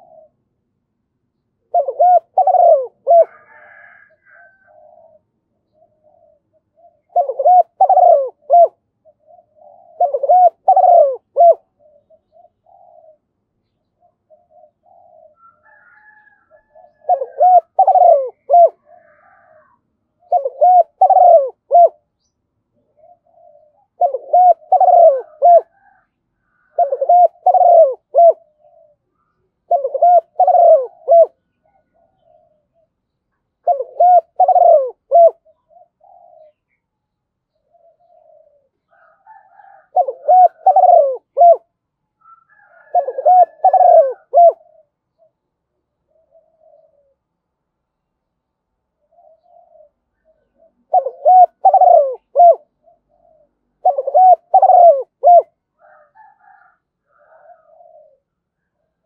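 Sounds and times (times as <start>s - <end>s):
dove cooing: 0.0s - 0.5s, 1.6s - 22.2s, 22.8s - 33.0s, 33.6s - 36.8s, 37.5s - 47.3s, 49.0s - 59.0s.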